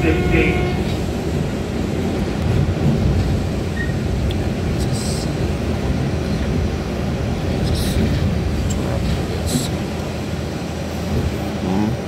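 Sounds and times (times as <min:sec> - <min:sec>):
subway car rumbling in tunnel: 0:00.0 - 0:12.0.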